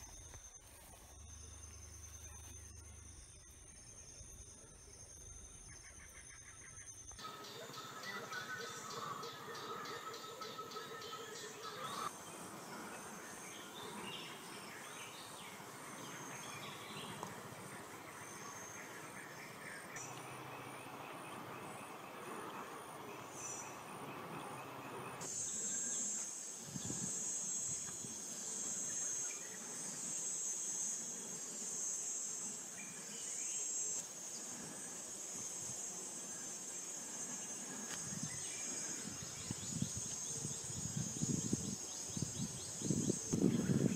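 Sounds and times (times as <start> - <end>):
chorus of insects: 0.0 - 43.9
high-pitched insect drone: 0.0 - 43.9.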